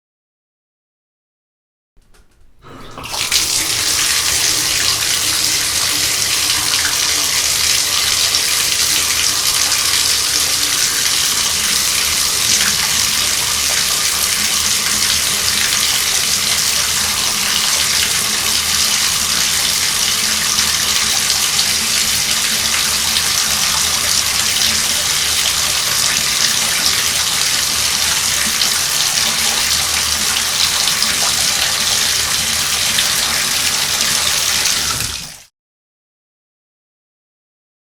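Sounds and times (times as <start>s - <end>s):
water running into bathtub: 2.1s - 35.5s.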